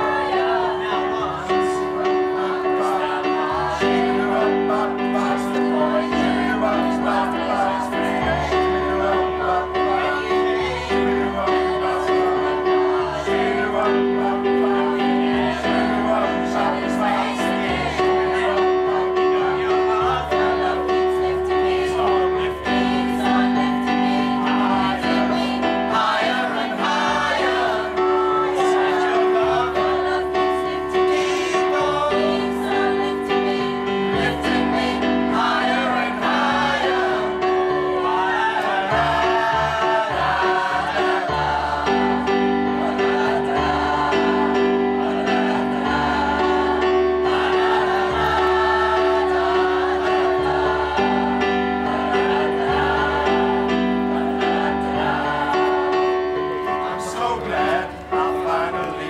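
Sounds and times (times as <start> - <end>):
electric keyboard chords: 0.0 - 59.0
mixed choir singing: 0.0 - 59.0.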